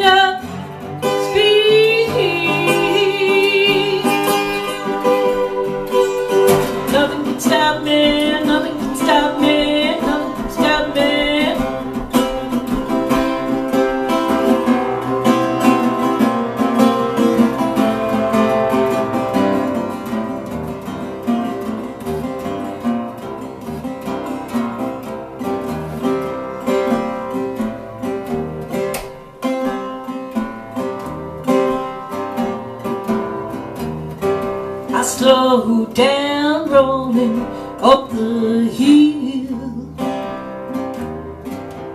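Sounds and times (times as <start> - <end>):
resonator guitar strummed and picked: 0.0 - 41.9.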